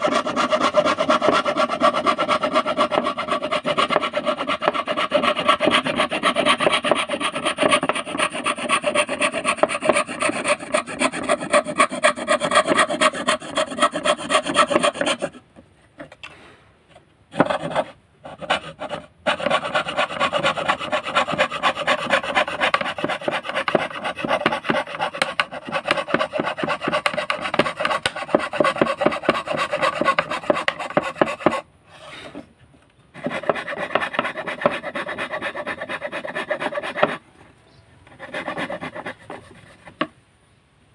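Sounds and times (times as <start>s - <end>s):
hand saw cutting wood: 0.0s - 15.4s, 17.4s - 32.4s, 33.2s - 37.2s, 38.2s - 40.1s.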